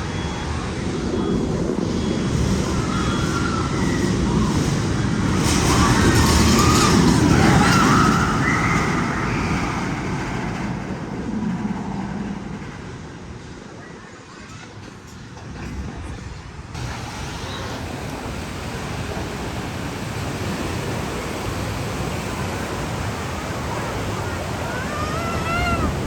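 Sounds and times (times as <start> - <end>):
roller coaster train rumbling: 0.0 - 26.0.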